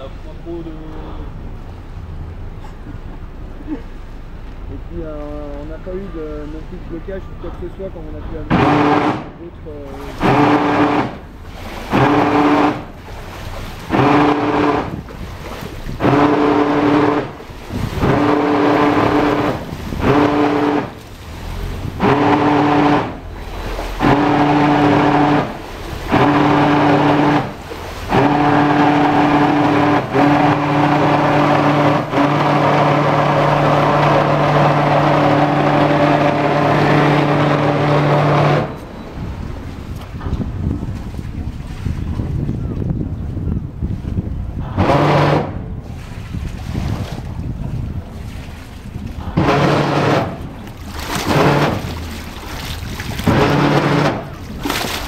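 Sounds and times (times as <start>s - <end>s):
boat drive humming drone: 0.0s - 55.0s.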